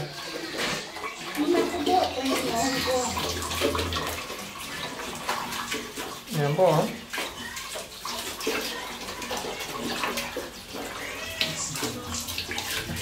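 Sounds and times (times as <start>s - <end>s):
dog splashing water: 0.0s - 13.0s
tap water pouring into bucket: 0.0s - 13.0s.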